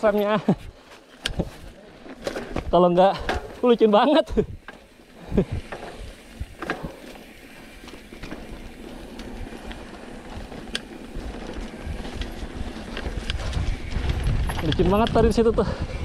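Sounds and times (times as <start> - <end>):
bike clicks and rattles: 0.0 - 16.0
bike tyres on dirt: 0.0 - 16.0.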